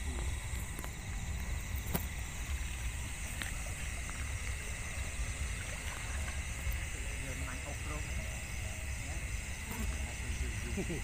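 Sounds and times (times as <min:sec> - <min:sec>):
constant low rumble: 0:00.0 - 0:11.0
crickets and insects trilling: 0:00.0 - 0:11.0.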